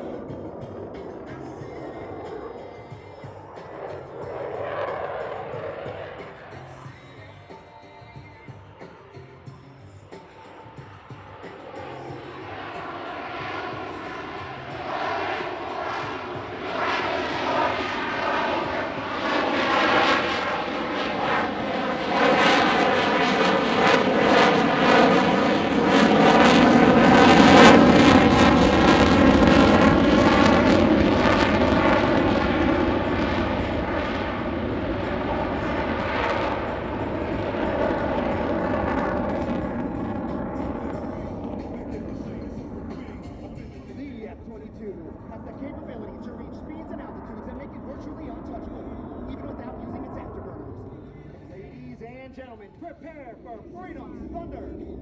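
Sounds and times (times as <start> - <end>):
jet engines roaring past: 0.0 - 55.0
jet whining tone: 0.0 - 55.0.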